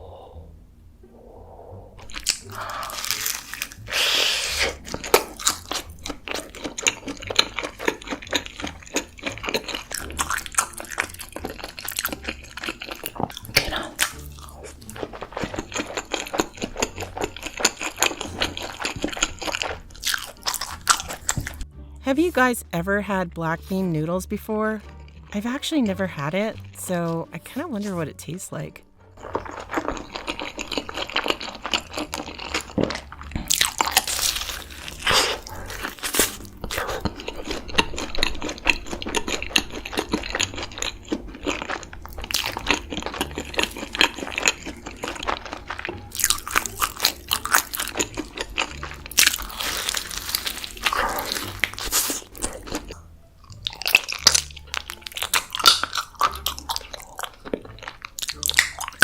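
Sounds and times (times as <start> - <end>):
chewing: 1.9 - 21.6, 24.8 - 25.3, 29.1 - 59.0
crunching bites of crispy food: 2.0 - 21.6, 29.2 - 59.0.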